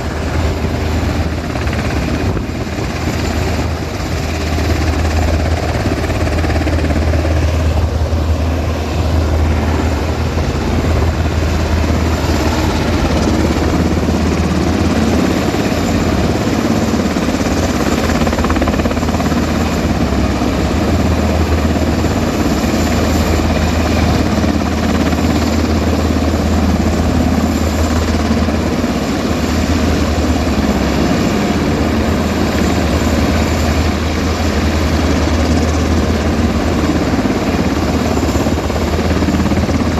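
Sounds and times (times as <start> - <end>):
helicopter rotor throbbing: 0.0 - 39.9.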